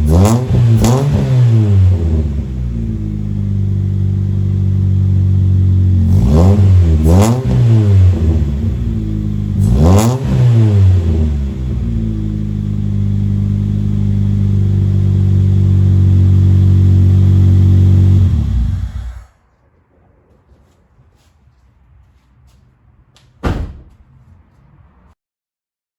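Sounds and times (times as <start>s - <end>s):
car engine blipping and idling: 0.0s - 24.8s.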